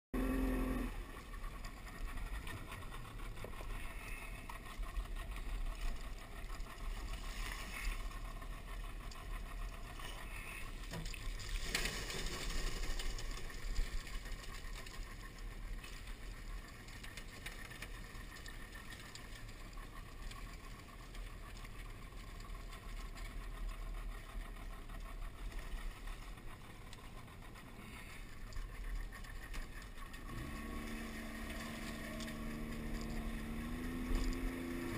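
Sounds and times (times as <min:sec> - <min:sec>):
outboard motor droning: 0:00.2 - 0:34.9.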